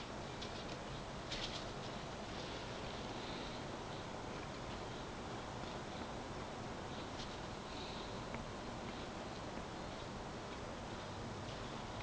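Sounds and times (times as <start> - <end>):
low background hiss: 0.0 - 12.0.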